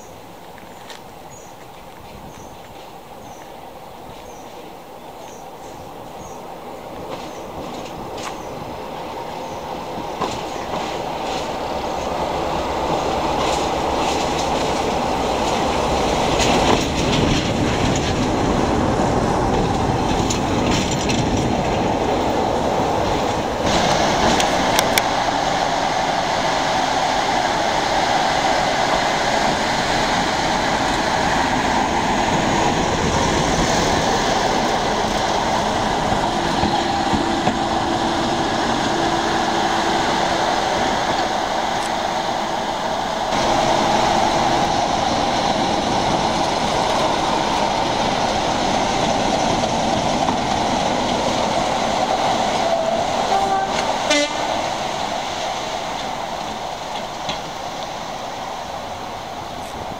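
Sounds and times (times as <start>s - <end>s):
train rumbling: 0.0s - 59.9s
wheels clacking over rail joints: 6.2s - 59.9s.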